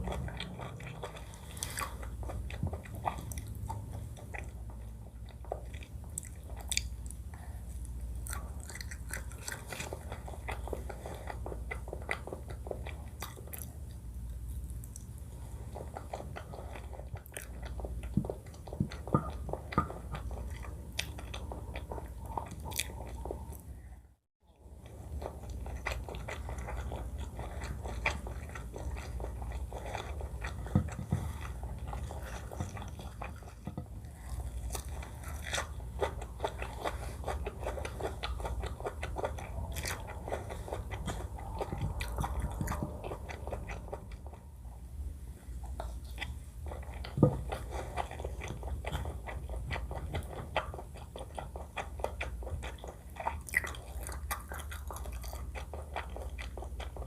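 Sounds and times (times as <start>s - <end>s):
chewing and biting food: 0.0s - 24.0s, 24.6s - 57.0s
low steady hum: 0.0s - 57.0s.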